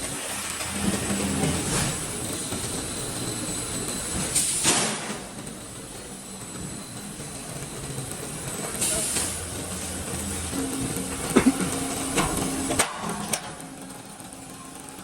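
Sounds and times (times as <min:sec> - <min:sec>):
roll forming machine running: 0:00.0 - 0:15.0.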